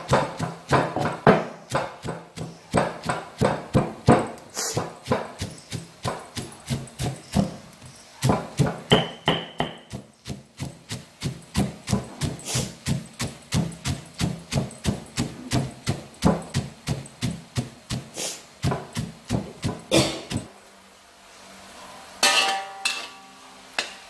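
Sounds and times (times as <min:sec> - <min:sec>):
stone pestle pounding in mortar: 0:00.0 - 0:20.5.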